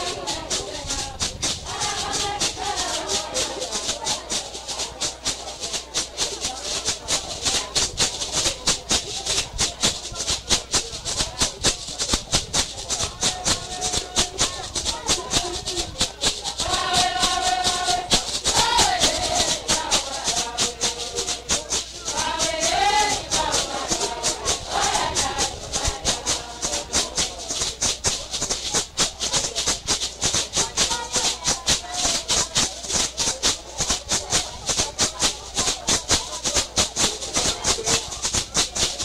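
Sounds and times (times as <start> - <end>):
fast shaker rhythm: 0.0 - 39.0.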